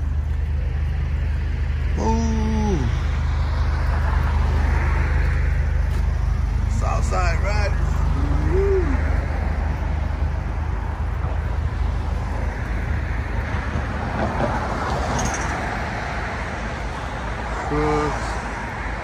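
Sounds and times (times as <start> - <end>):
street traffic noise: 0.0 - 19.0
vehicle engines idling: 0.0 - 19.0.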